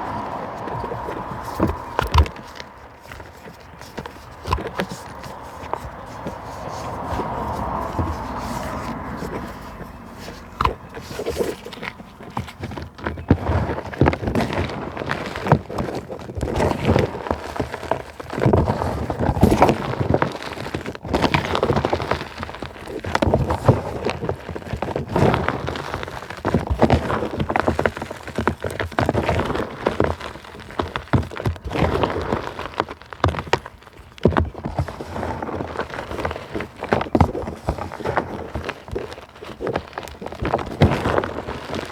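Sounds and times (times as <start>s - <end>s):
natural materials crunching: 0.0s - 41.9s.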